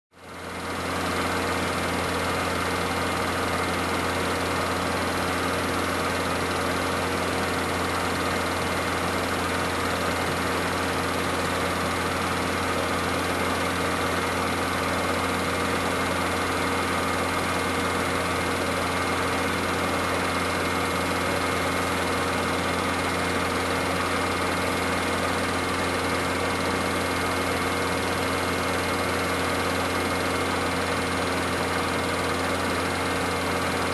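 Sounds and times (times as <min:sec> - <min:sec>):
film projector whirring: 0:00.2 - 0:33.9.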